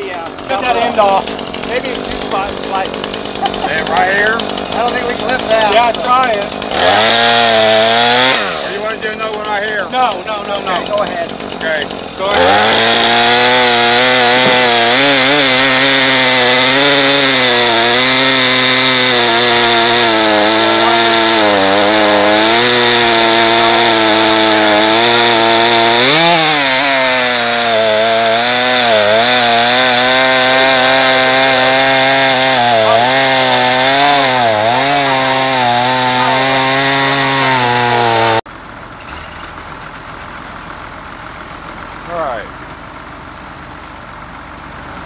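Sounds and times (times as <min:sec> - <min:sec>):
chainsaw cutting log: 0:00.0 - 0:38.5.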